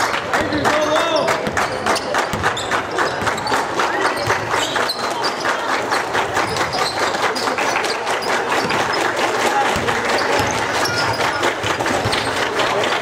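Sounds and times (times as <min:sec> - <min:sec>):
spectators chattering: 0:00.0 - 0:13.0
basketball bouncing on court: 0:00.1 - 0:12.9.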